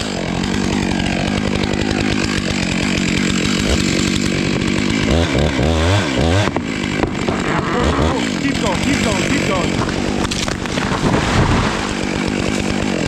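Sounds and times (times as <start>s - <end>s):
chainsaw cutting tree trunk: 0.0s - 13.0s.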